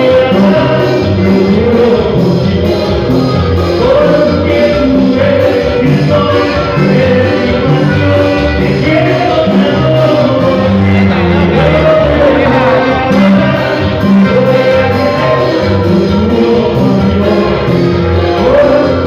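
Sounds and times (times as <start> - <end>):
latin band playing: 0.0 - 19.0
person singing: 0.0 - 19.0.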